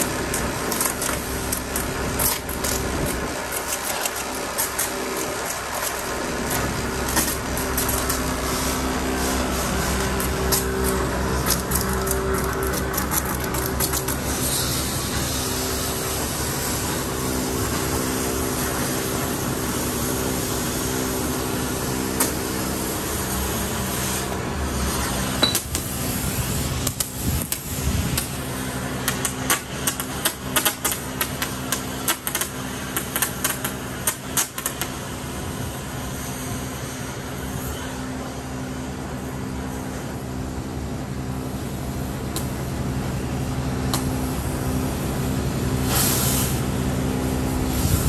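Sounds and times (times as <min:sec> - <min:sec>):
crane engine running: 0:00.0 - 0:48.0.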